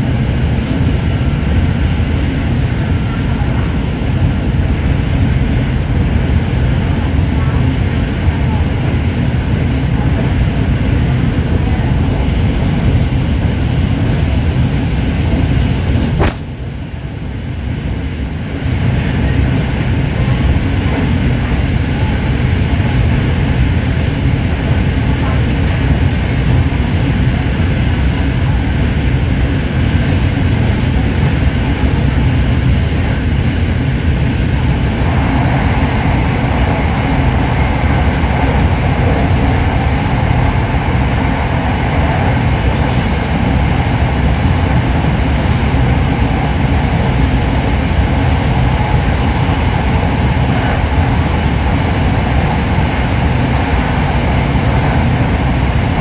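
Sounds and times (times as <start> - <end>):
train carriage running rumble: 0.0 - 56.0.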